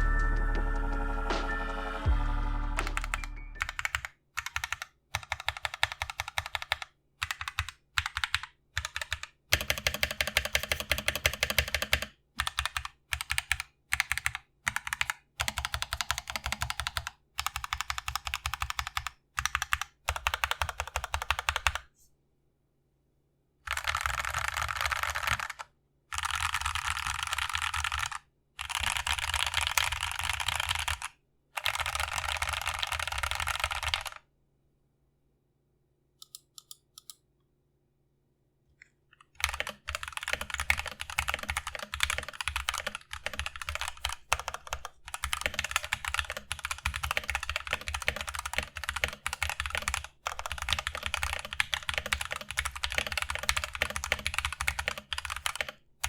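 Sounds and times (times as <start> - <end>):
mechanical keyboard typing: 2.8 - 21.9, 23.7 - 34.2, 39.3 - 55.9.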